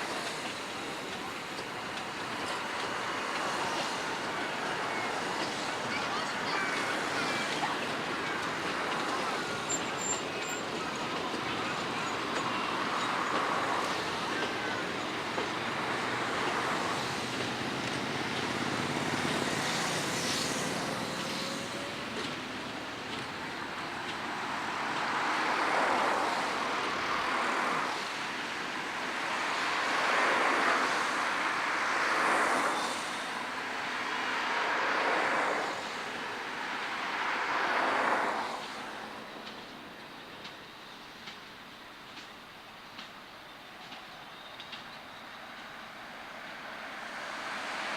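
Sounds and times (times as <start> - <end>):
train rumbling past: 0.0 - 47.9.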